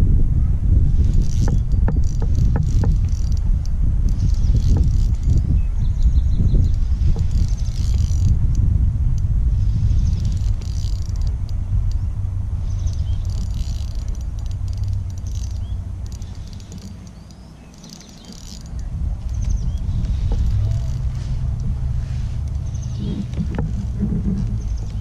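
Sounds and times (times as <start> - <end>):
wind rumbling on microphone: 0.0 - 25.0
small birds chirping: 4.1 - 8.7, 9.4 - 25.0.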